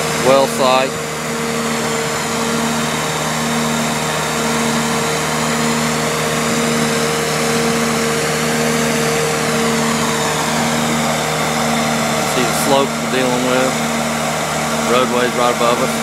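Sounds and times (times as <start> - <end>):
blower mechanical drone: 0.0 - 16.0.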